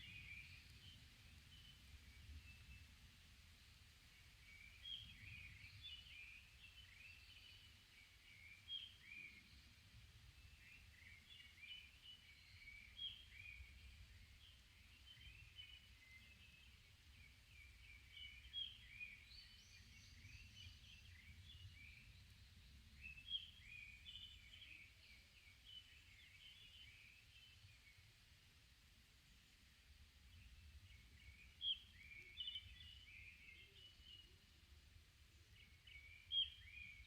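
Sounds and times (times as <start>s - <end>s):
forest birds chirping: 0.0s - 37.0s.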